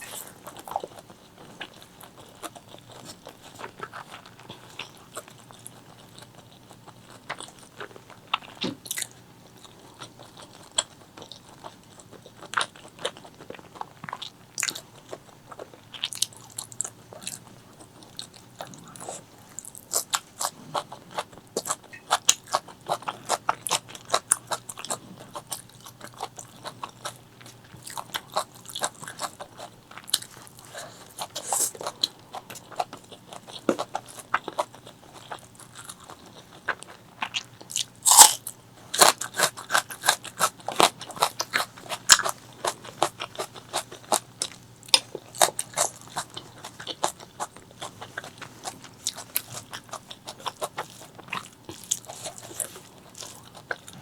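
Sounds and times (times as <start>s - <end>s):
close chewing with mouth smacks: 0.0s - 54.0s.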